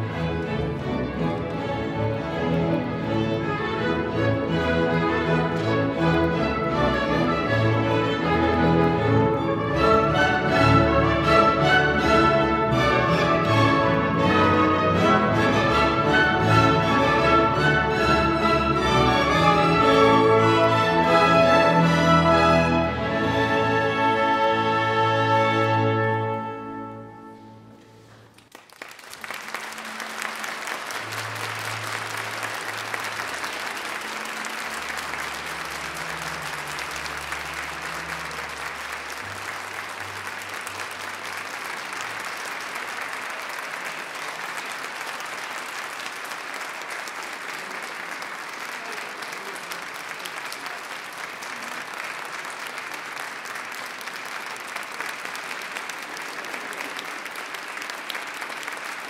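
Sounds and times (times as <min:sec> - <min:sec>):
audience applause: 0:00.0 - 0:26.3, 0:28.0 - 0:59.0.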